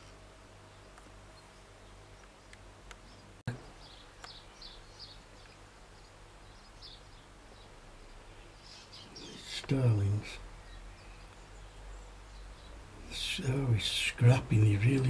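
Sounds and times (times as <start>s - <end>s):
faint steady hum: 0.0s - 15.0s
starlings chirping: 0.0s - 15.0s.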